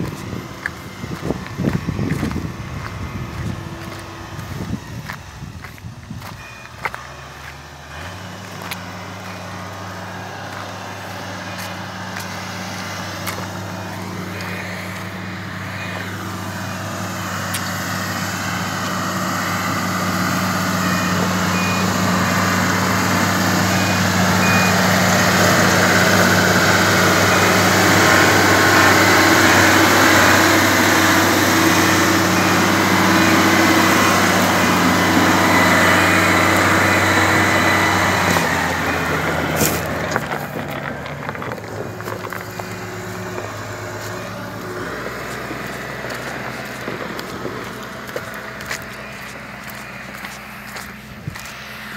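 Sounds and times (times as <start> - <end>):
motor grader diesel engine: 0.0 - 51.9.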